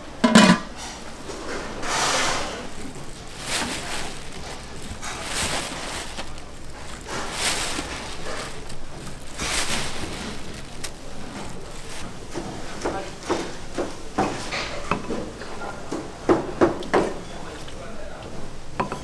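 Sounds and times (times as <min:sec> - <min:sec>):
plastic bag rustling: 0:00.0 - 0:15.4.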